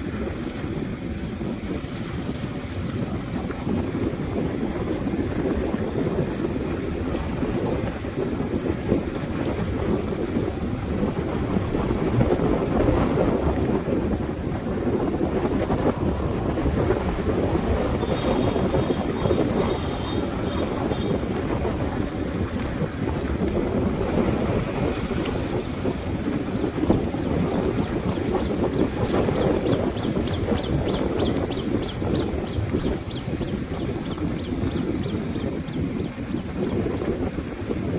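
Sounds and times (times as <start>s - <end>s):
motorbike running: 0.0s - 37.9s
wind buffeting microphone: 0.0s - 37.9s.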